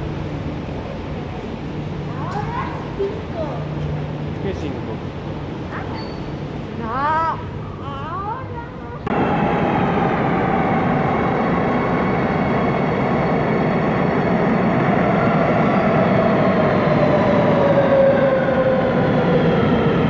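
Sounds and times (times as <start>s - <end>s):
train rumble with falling whine: 0.0s - 20.0s.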